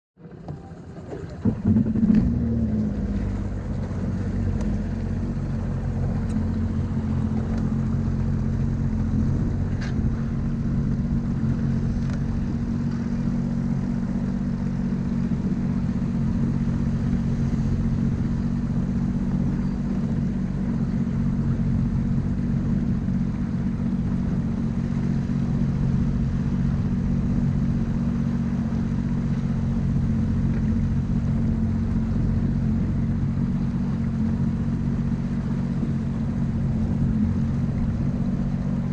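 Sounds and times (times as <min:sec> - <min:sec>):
watercraft engine running: 0:00.2 - 0:38.9.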